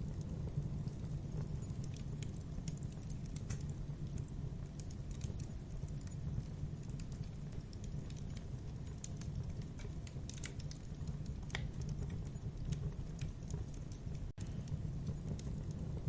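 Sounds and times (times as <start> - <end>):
fire flames burning: 0.0 - 16.0
wood crackling and popping: 0.0 - 16.0.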